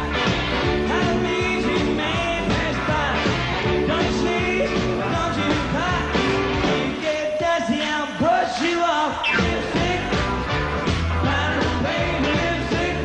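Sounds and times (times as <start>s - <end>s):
rock song with male vocals: 0.0s - 13.0s.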